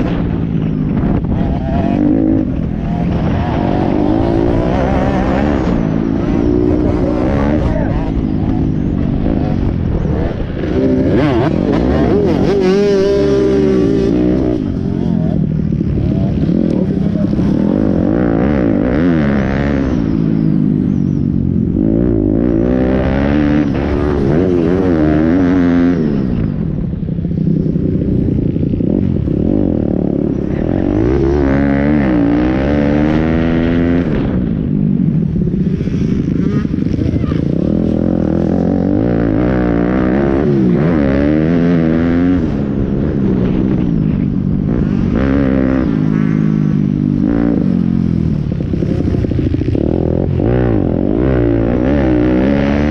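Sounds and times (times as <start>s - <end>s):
motorbike engines revving: 0.0s - 52.9s.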